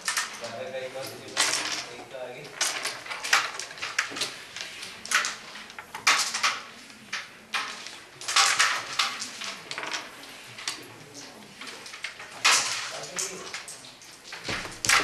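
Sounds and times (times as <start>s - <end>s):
carrom pieces clacking: 0.0s - 15.0s.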